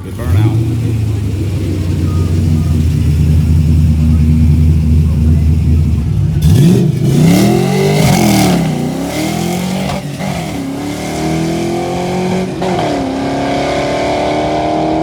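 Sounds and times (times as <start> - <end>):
drag car engine accelerating: 0.0 - 15.0.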